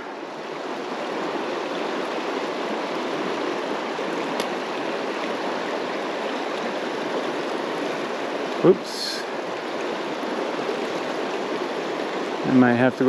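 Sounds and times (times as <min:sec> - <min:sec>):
mountain stream flowing: 0:00.0 - 0:13.0.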